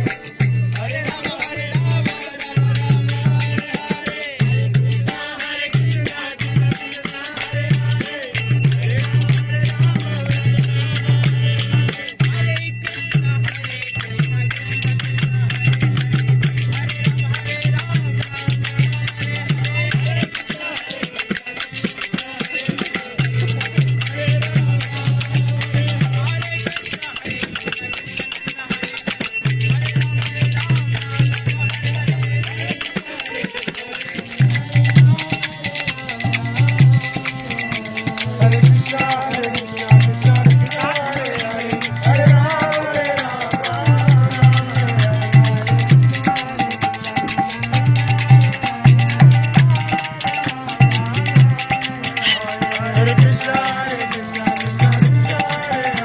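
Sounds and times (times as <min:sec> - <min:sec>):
jingling rattling percussion: 0:00.0 - 0:56.0.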